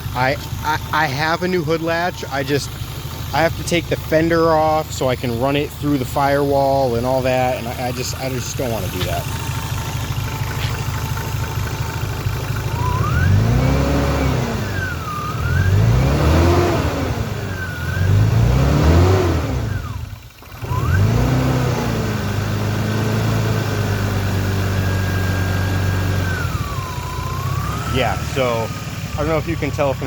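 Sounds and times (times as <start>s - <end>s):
alternator whining: 0.0s - 30.0s
car engine revving: 0.0s - 30.0s.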